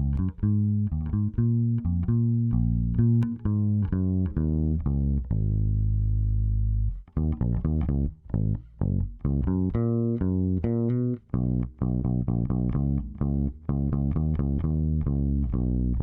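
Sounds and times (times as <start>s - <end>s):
bass guitar plucked notes: 0.0s - 16.0s.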